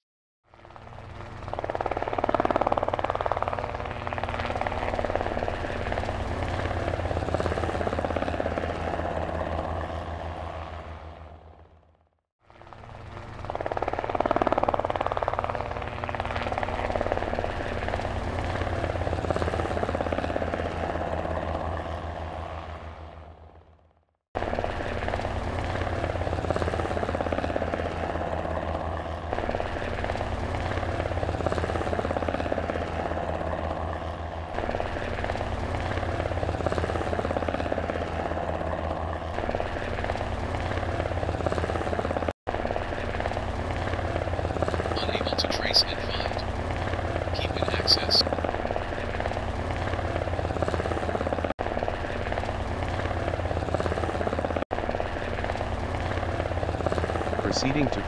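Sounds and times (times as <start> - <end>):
helicopter rotor beat: 0.5 - 11.3, 12.5 - 22.7, 24.4 - 58.0
helicopter engine noise: 0.5 - 11.5, 12.5 - 23.2, 24.4 - 58.0.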